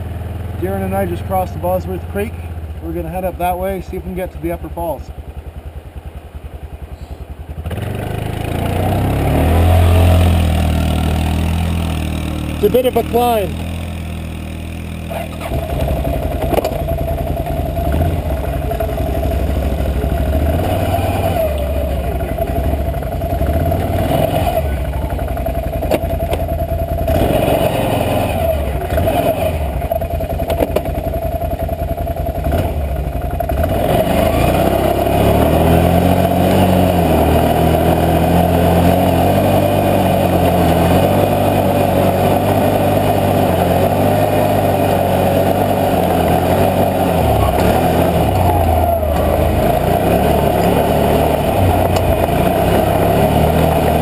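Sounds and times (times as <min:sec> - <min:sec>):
atv engine running under load: 0:00.0 - 0:54.0.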